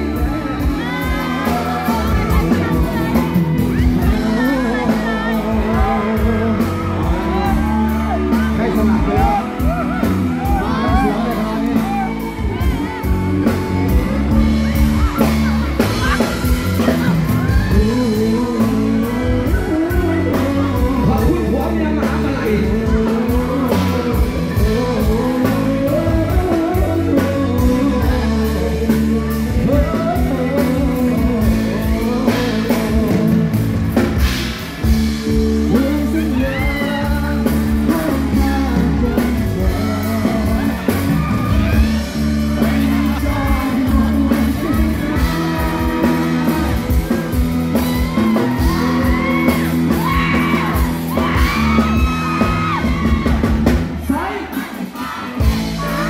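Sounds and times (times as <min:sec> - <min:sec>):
bass: 0:00.0 - 0:56.0
drum beat: 0:00.0 - 0:56.0
man singing: 0:00.0 - 0:56.0.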